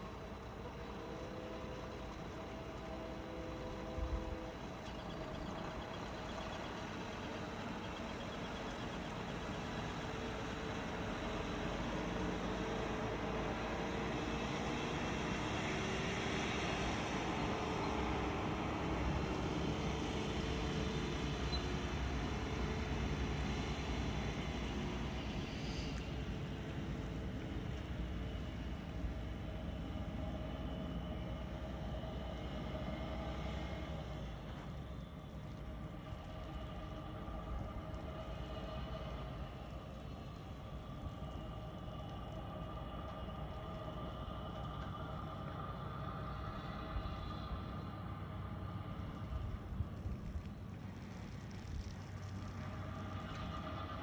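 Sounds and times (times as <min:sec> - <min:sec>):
truck engine rumble: 0:00.0 - 0:54.0.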